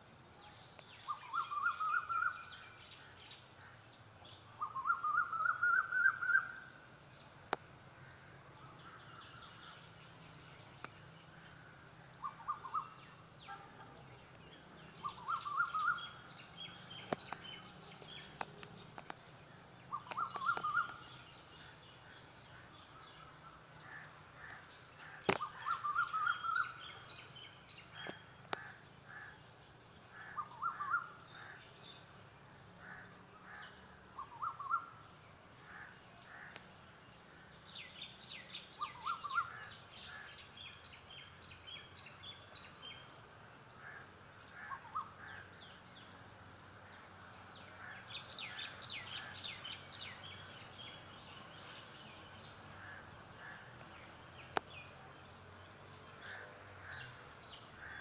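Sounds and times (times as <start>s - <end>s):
birds rising calls: 0.5s - 58.0s.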